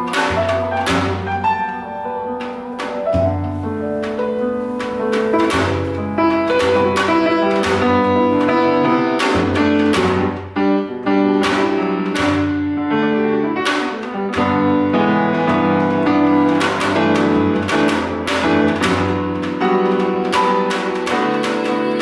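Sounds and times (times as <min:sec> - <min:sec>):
live ensemble music: 0:00.0 - 0:22.0.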